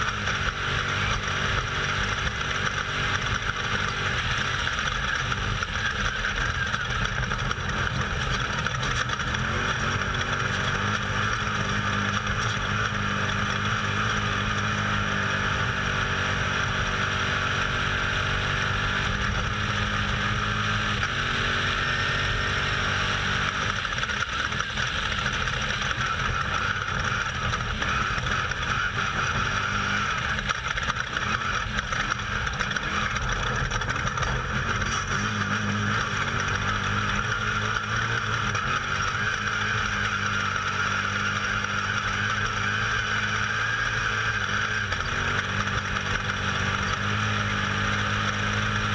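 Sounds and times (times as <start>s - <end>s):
race vehicle engine running hard: 0.0s - 48.9s.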